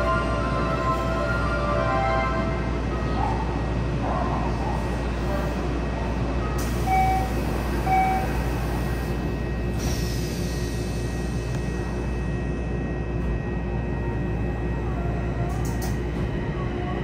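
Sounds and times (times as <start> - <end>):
train equipment hum: 0.0 - 17.0.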